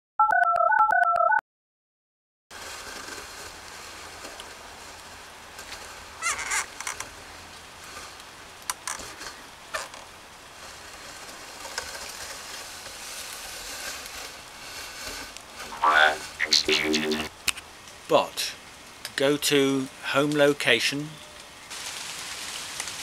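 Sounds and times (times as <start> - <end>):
steady background hiss: 2.6 - 23.0.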